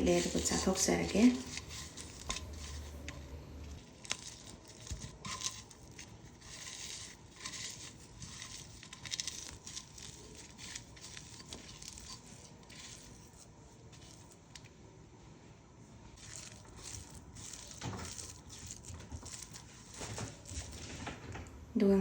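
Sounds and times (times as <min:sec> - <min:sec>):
hands mixing vegetable salad: 0:00.0 - 0:14.7, 0:16.1 - 0:21.3.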